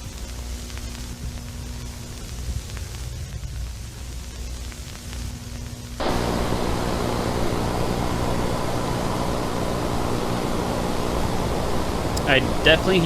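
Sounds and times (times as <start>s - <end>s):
loud static hiss: 0.0s - 13.0s
low electrical hum: 0.0s - 13.0s.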